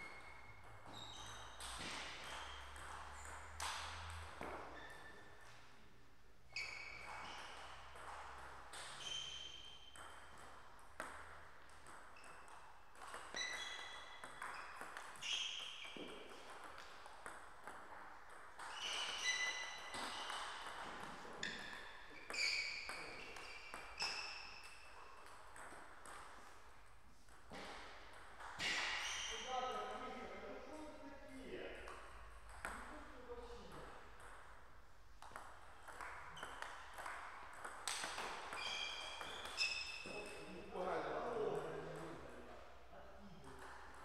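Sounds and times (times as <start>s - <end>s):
table tennis ball hits: 0.0s - 5.1s, 6.7s - 26.6s, 27.3s - 29.9s, 31.8s - 33.0s, 33.6s - 40.4s, 43.5s - 44.0s
ball bouncing on table: 0.0s - 5.6s, 6.9s - 26.6s, 27.3s - 30.0s, 31.8s - 34.6s, 35.2s - 40.4s, 43.5s - 44.0s.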